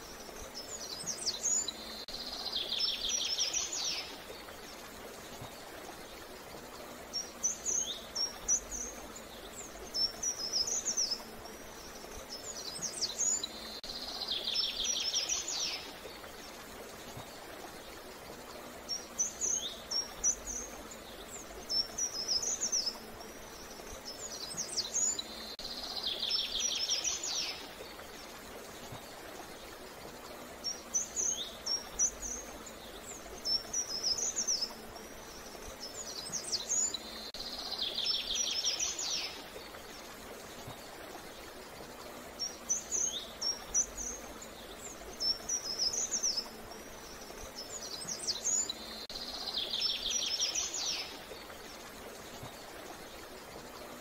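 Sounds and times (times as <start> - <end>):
faint steady hiss: 0.0 - 54.0
songbird singing: 0.0 - 54.0.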